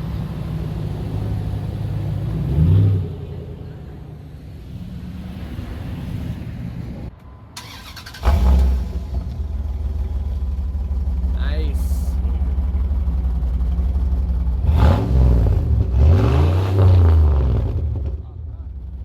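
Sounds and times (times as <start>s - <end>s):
car engine and road noise: 0.0s - 19.0s
deep engine rumble: 0.0s - 19.0s.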